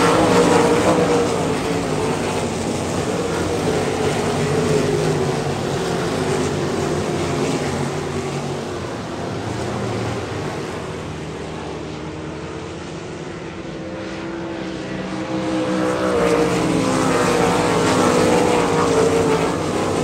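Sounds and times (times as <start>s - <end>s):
race car engines at speed: 0.0s - 20.0s.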